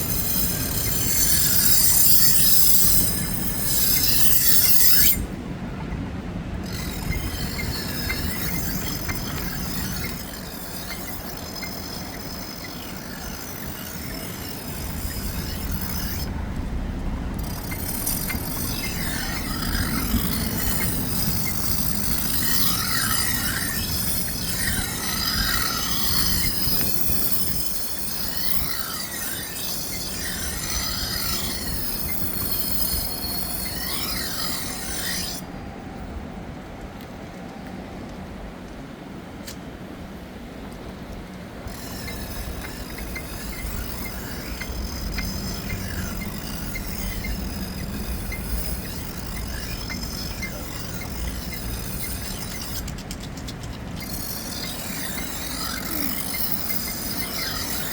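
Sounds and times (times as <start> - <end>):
high metallic screeches: 0.0 - 5.4, 6.6 - 35.5, 41.6 - 57.9
knife grinding on sharpening wheel: 0.0 - 5.4, 6.6 - 35.5, 41.6 - 57.9.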